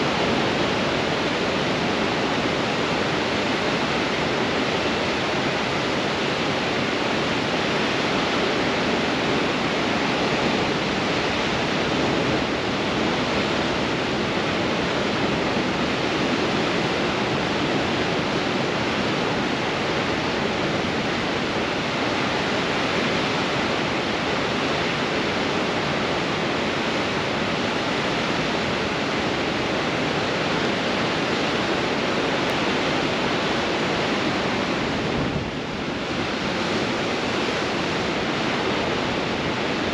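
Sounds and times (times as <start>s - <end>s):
ocean surf roaring on rocks: 0.0s - 39.9s
strong wind: 0.0s - 39.9s.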